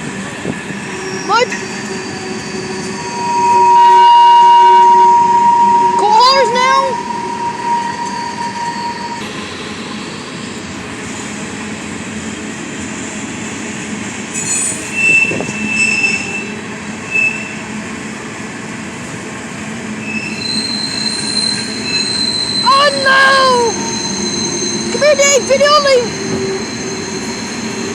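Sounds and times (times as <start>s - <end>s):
wheels squealing on rails: 0.0s - 18.1s, 19.0s - 27.9s
train rumbling past: 0.0s - 27.9s.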